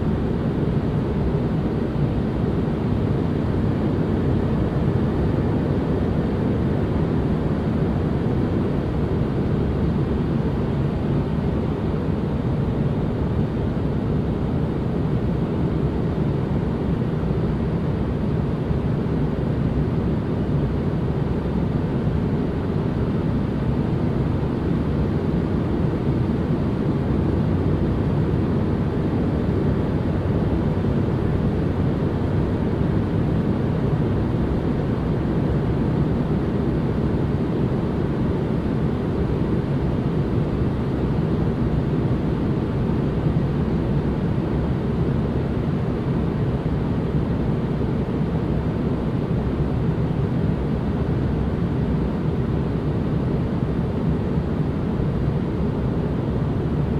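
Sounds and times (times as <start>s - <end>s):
steady low white noise hiss: 0.0s - 56.9s.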